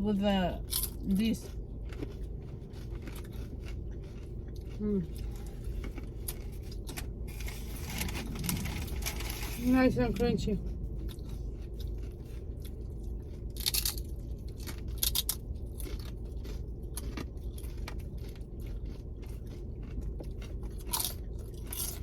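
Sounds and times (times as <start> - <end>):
steady low rumble: 0.0 - 22.0
chips crunching while chewed: 0.6 - 9.6, 10.6 - 22.0.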